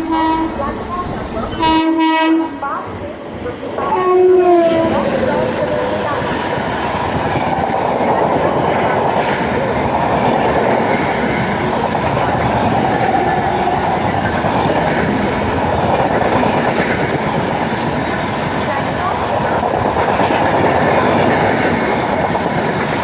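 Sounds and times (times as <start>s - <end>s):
train wheels running on rails: 0.0s - 23.0s.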